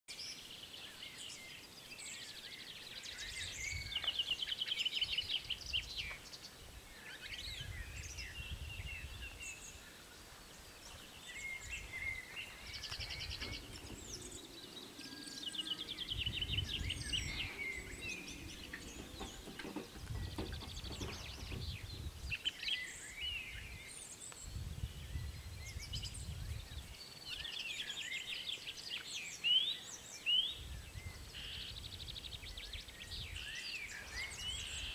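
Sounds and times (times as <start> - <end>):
songbirds singing and trilling: 0.1 - 34.9
wind rumbling on microphone: 3.0 - 27.7, 30.4 - 34.9.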